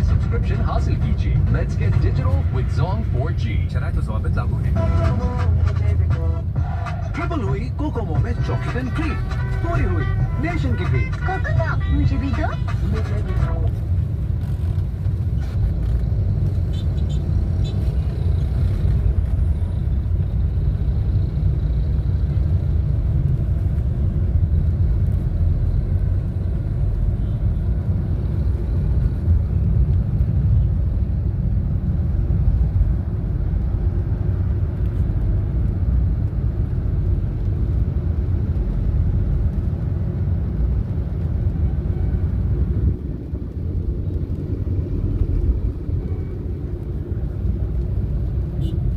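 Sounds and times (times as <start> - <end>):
road vehicle rumble: 0.0 - 48.9.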